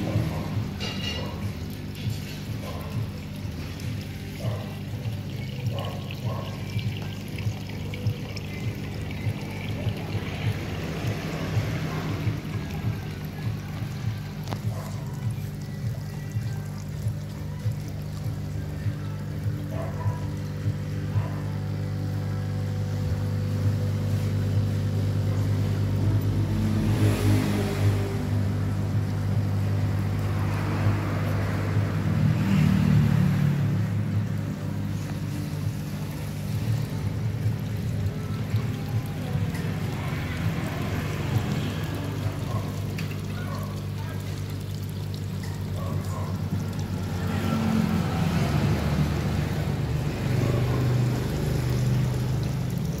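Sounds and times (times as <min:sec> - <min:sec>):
electric pump hum: 0:00.0 - 0:53.0
water splashing into a pond: 0:00.0 - 0:53.0.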